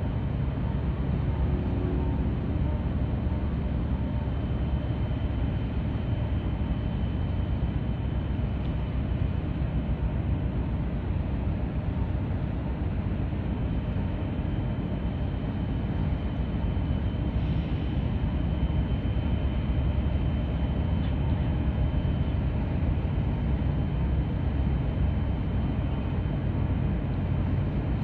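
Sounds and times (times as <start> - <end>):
faint high whine: 0.0 - 27.7
ship engine rumble: 0.0 - 28.0.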